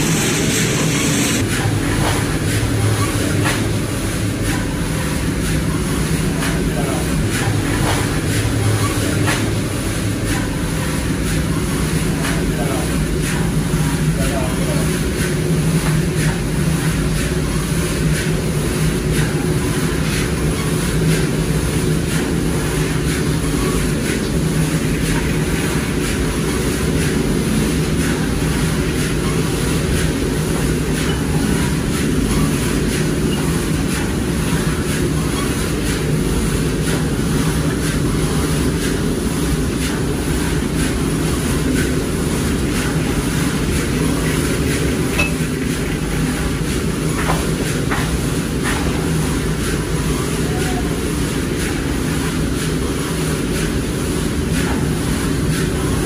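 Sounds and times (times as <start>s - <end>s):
drum roaster mechanical hum: 0.0s - 56.0s.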